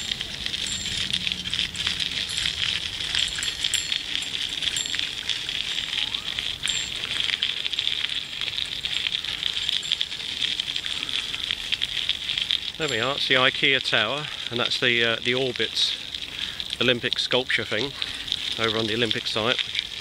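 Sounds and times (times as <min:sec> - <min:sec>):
bicycle rattling clicks: 0:00.0 - 0:20.0
bicycle tyres hissing on pavement: 0:00.0 - 0:20.0.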